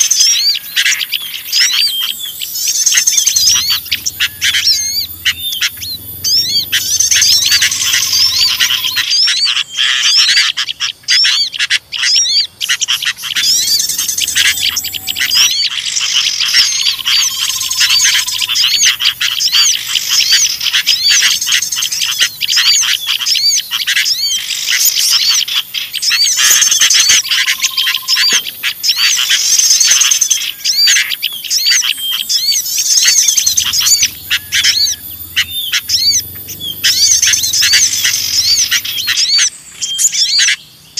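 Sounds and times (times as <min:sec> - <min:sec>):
bulbul calls: 0:00.0 - 0:40.9
songbirds chirping rapidly: 0:00.0 - 0:40.9.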